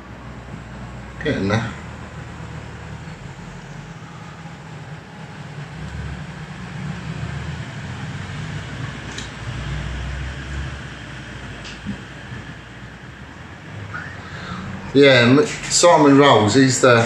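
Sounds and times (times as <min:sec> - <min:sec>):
churning rumble of fork damper: 0:00.0 - 0:17.0.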